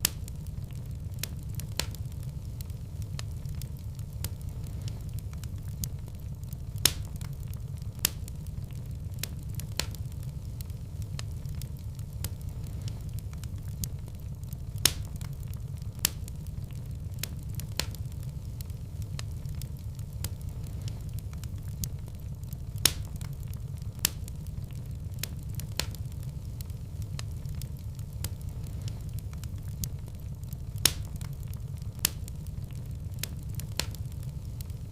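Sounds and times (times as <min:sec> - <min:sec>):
loud fire pops: 0:00.0 - 0:34.9
low rumble of flames: 0:00.0 - 0:34.9
wood fire crackling: 0:00.0 - 0:34.9.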